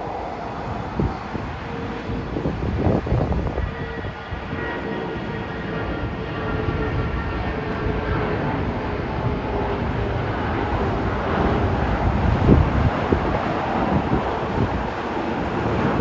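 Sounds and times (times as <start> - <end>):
engine whine: 0.0 - 16.0
jet engine rushing: 0.0 - 16.0
wind buffeting microphone: 0.0 - 16.0.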